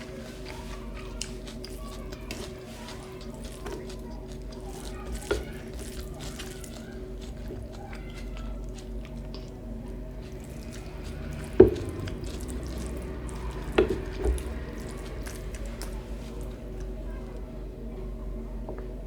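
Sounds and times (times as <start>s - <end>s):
wet squishing of food eaten by hand: 0.0s - 17.9s.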